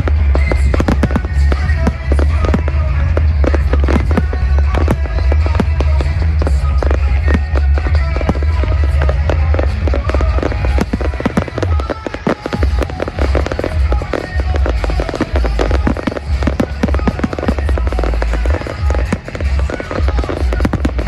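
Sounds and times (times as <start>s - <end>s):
fireworks crackling and popping: 0.0s - 21.0s
fireworks shells booming: 0.0s - 21.0s
music playing: 0.0s - 21.0s.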